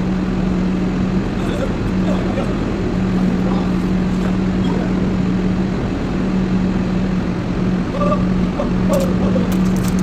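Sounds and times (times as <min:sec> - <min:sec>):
heavy equipment engine running: 0:00.0 - 0:10.0.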